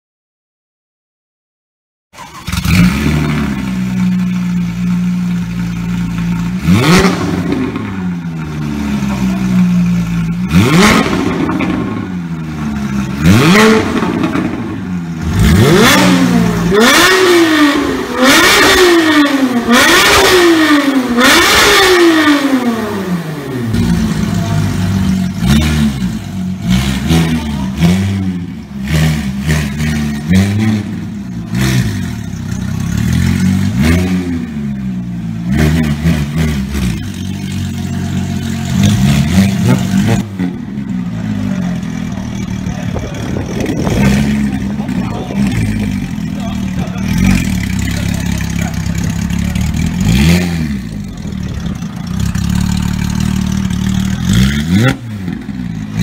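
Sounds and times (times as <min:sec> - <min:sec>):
sports car engine revving: 0:02.4 - 0:56.0.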